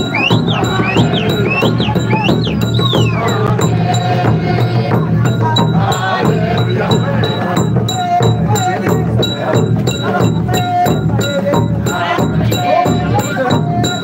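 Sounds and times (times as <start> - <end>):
music with percussive beat: 0.0 - 14.0.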